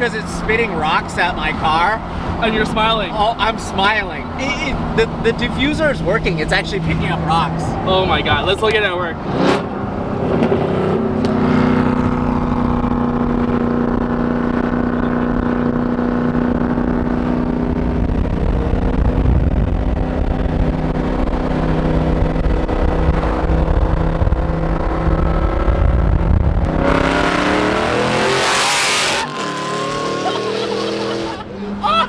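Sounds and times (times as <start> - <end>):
loud car exhaust rumble: 0.0 - 32.0.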